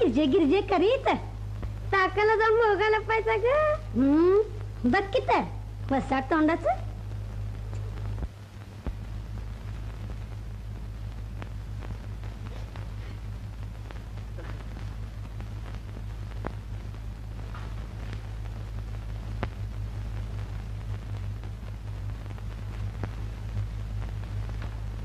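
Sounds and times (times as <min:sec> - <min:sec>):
faint hiss: 0:00.0 - 0:25.0
film crackles and pops: 0:00.0 - 0:25.0
low hum: 0:00.0 - 0:25.0.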